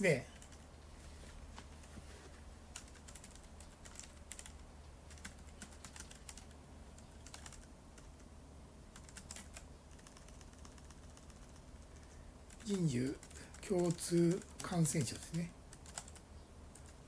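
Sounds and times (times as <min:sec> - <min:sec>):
low steady hum: 0:00.0 - 0:17.0
keyboard typing: 0:00.4 - 0:00.6, 0:02.7 - 0:08.3, 0:08.9 - 0:17.0.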